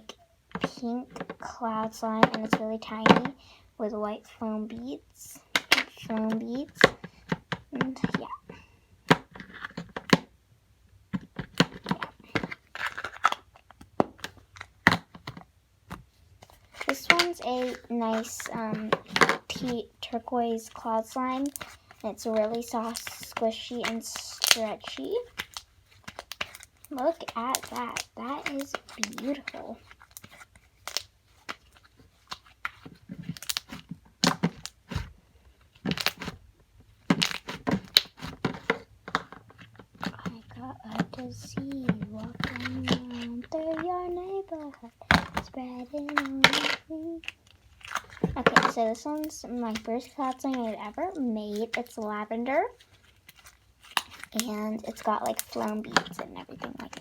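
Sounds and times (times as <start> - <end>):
plastic containers clicking and crackling: 5.4 - 10.3, 11.1 - 57.0.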